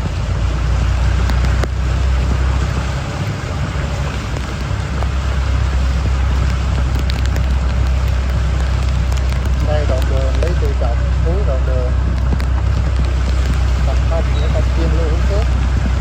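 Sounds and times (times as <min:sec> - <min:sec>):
heavy rain falling: 0:00.0 - 0:16.0
low rumble: 0:00.0 - 0:16.0.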